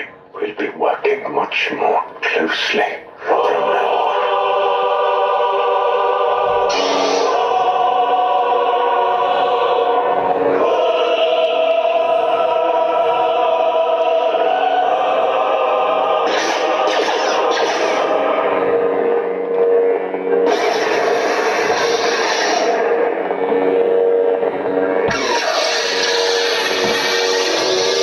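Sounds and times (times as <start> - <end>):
choir singing sustained chords: 0.0 - 28.0.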